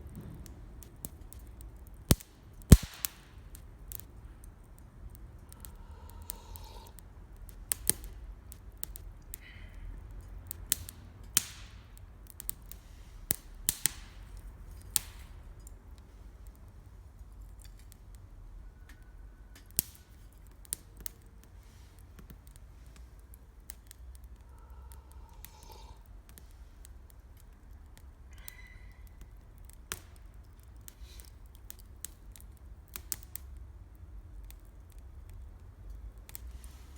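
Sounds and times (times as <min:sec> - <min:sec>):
campfire crackling: 0:00.4 - 0:28.3, 0:29.0 - 0:36.9.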